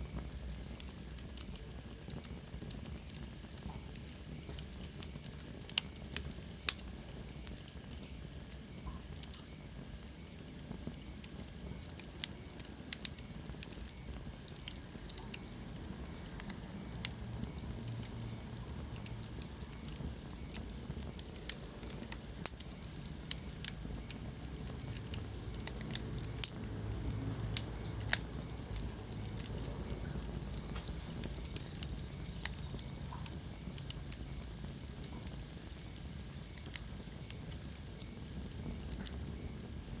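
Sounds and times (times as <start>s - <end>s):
fire crackling and popping: 0.0s - 40.0s
fire flames rumbling: 0.0s - 40.0s.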